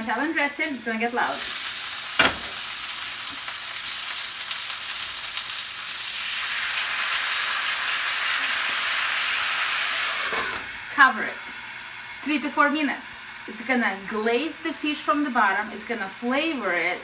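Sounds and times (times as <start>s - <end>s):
fish sizzling in frying pan: 0.2s - 17.0s.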